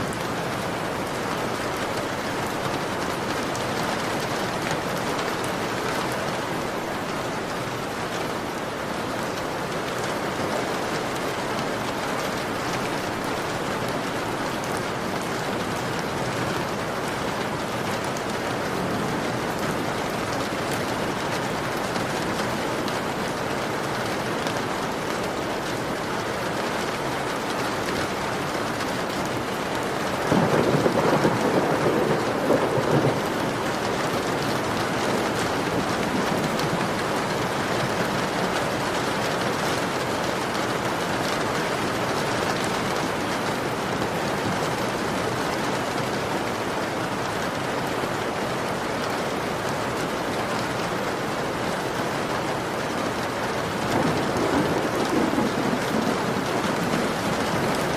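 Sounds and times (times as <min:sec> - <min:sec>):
heavy rain on a window: 0:00.0 - 0:57.9.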